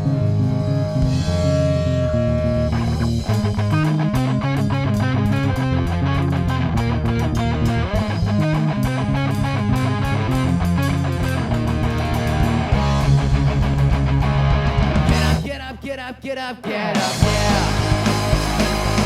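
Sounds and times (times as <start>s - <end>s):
electric guitar: 0.0s - 15.9s, 16.6s - 19.0s
bass notes: 0.0s - 16.0s, 17.0s - 19.0s
fast drum beat: 2.7s - 15.9s, 16.9s - 19.0s.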